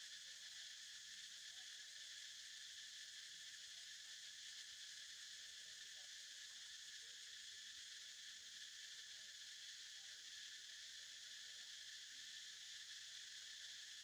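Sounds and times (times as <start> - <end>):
faint insect chorus: 0.0 - 14.0.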